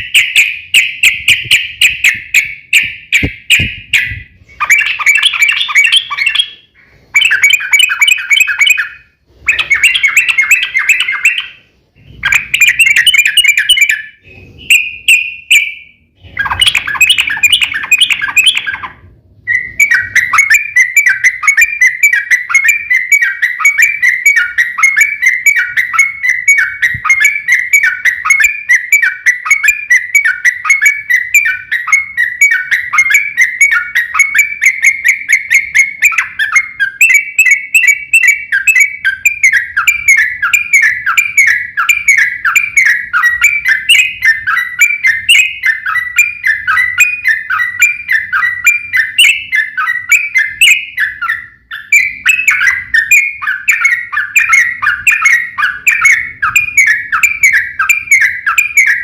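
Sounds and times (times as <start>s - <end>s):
bulbul bubbly chattering song: 0.0s - 8.9s, 16.2s - 59.0s
long rapid bird trill: 0.0s - 59.0s.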